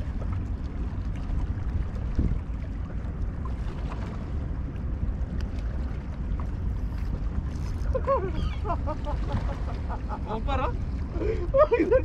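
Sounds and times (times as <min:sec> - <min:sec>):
faint waves: 0:00.0 - 0:12.0
wind rumble on microphone: 0:00.0 - 0:12.0.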